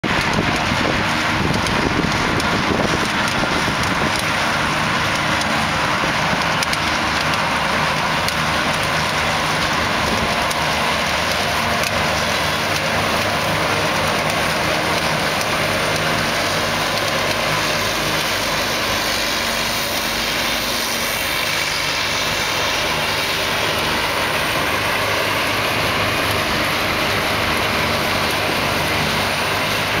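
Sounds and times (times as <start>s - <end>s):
machine drone: 0.0s - 30.0s.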